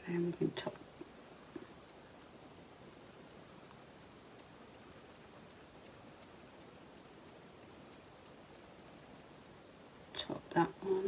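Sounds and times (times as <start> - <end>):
faint room hiss: 0.0 - 11.0
faint high ticks: 0.8 - 10.2.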